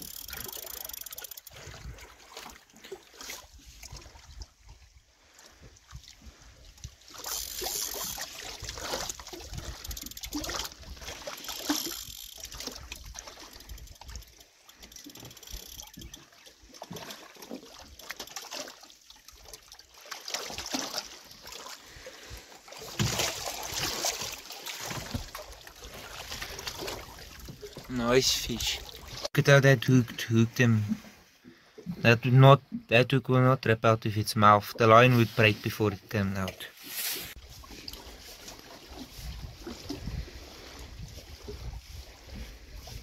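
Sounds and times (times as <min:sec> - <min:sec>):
water splashing from fish: 0:00.0 - 0:29.3, 0:36.7 - 0:43.0.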